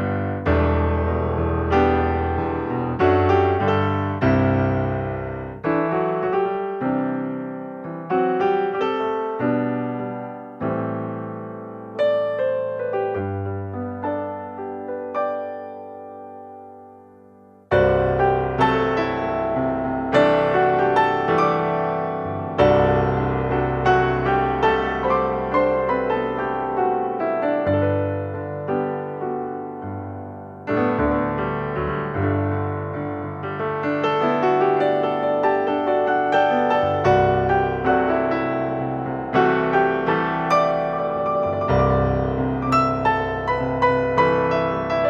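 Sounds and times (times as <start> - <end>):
slow piano chords: 0.0 - 45.0.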